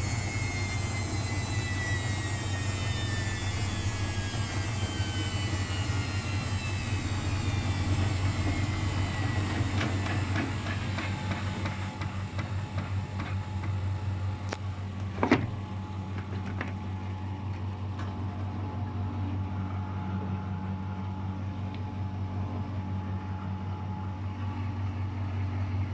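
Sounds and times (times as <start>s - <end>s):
washing machine spinning: 0.0s - 25.9s.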